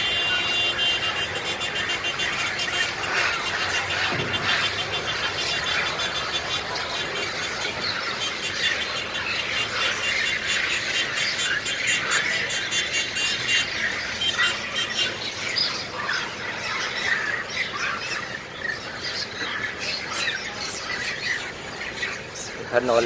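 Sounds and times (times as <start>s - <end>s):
monkeys squealing: 0.0s - 23.0s.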